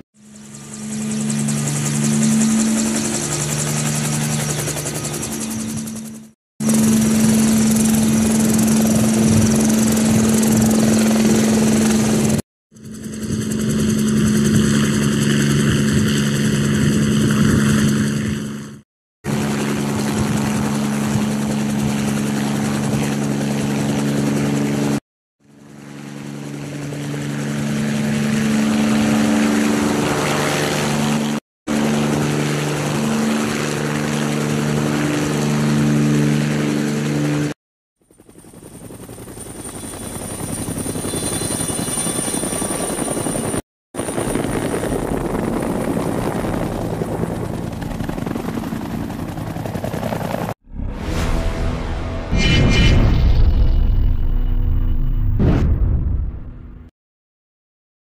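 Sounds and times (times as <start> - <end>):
helicopter engine and rotor: 0.0 - 50.6.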